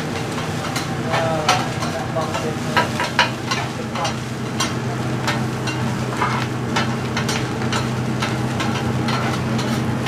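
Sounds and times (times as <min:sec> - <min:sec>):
fried rice sizzling: 0:00.0 - 0:10.0
steady low hum: 0:00.0 - 0:10.0.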